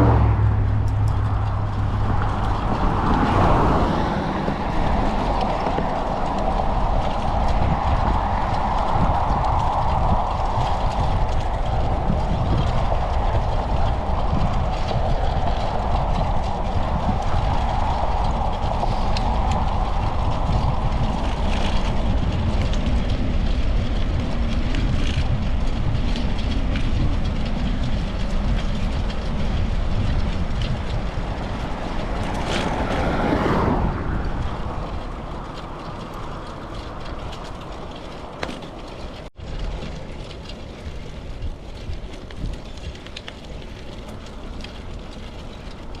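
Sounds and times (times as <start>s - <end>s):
bicycle road rumble: 0.0s - 46.0s
wind on microphone: 0.0s - 46.0s.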